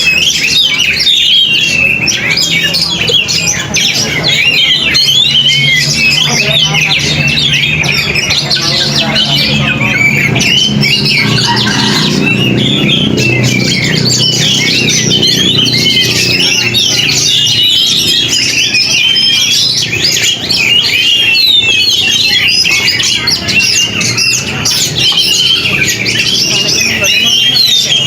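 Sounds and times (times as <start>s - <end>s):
magpie-robin singing: 0.0s - 28.0s.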